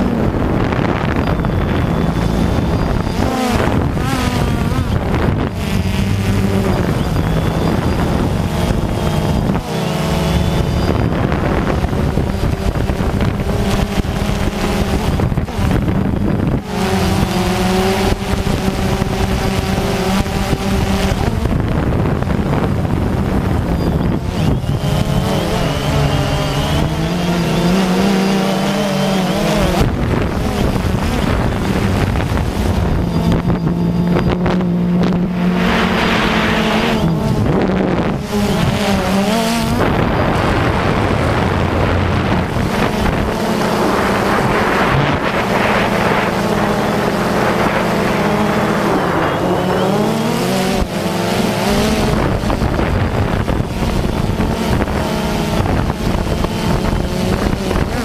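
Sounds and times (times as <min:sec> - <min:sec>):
drone motors buzzing: 0:00.0 - 0:58.0
wind noise on microphone: 0:00.0 - 0:58.0.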